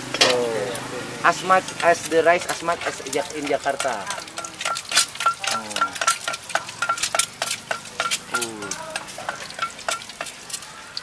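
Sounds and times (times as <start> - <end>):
steady sizzling: 0.0 - 11.0
metal spatula clinking on wok: 1.6 - 10.7.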